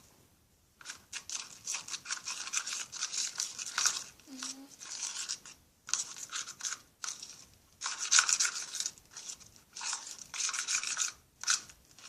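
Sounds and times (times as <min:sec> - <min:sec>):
spoon stirring sticky slime: 0:00.8 - 0:12.0.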